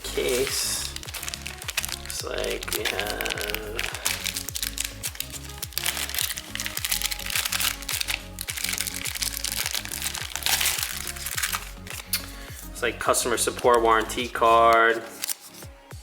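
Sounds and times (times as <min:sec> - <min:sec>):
packaging crinkling: 0:00.0 - 0:15.9
music with steady beat: 0:00.0 - 0:16.0.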